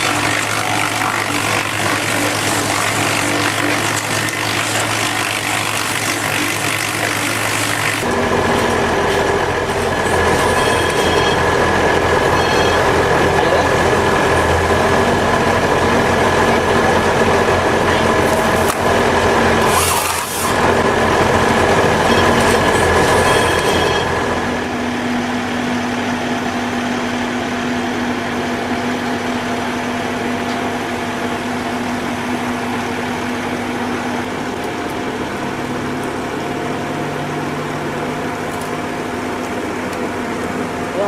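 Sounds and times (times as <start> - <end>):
heavy machine engine running: 0.0 - 41.0.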